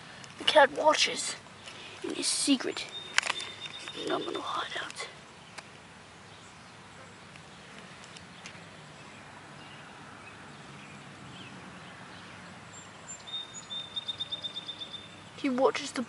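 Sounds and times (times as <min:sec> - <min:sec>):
faint outdoor background noise: 0:00.0 - 0:16.0
soft bird chirps: 0:01.1 - 0:16.0.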